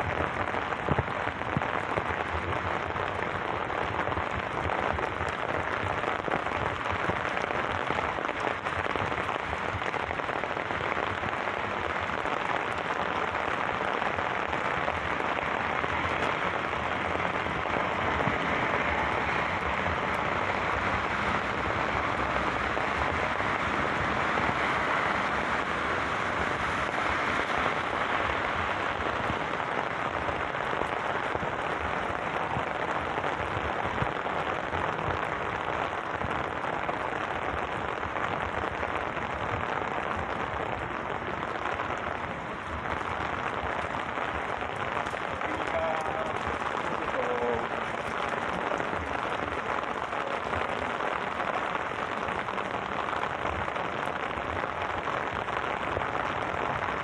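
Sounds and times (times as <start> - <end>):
heavy rain on paving: 0.0 - 57.0.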